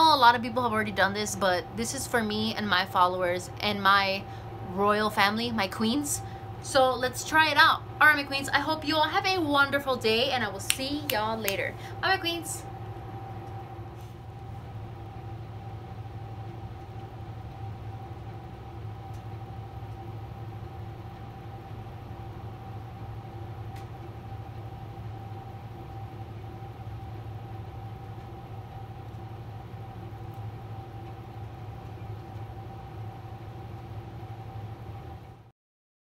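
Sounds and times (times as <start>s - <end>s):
faint constant whine: 0.0s - 35.5s
low background hum: 0.0s - 35.5s.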